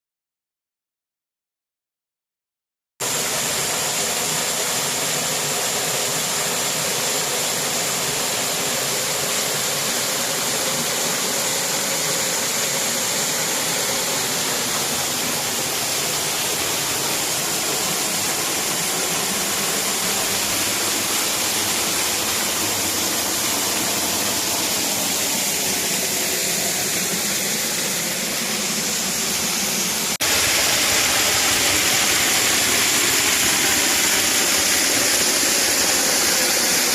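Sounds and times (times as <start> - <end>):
waterfall rushing: 3.0 - 36.9.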